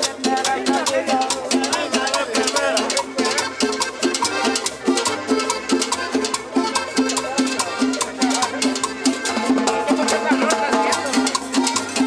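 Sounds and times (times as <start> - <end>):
salsa band music: 0.0 - 12.0
steady percussion beat: 0.0 - 12.0.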